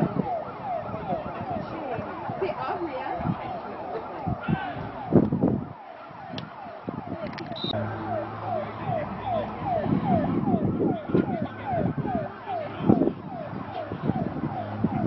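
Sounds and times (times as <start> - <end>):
siren yelping: 0.0 - 15.0.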